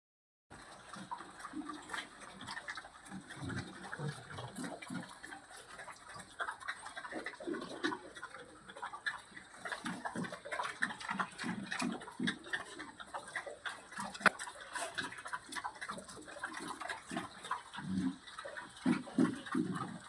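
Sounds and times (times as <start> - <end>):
pigs grunting: 0.6 - 20.0.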